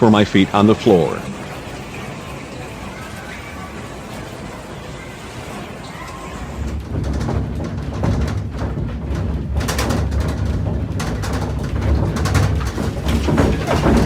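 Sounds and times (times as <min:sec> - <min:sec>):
building rumbling in earthquake: 0:00.0 - 0:14.0
loose objects rattling: 0:00.0 - 0:14.0.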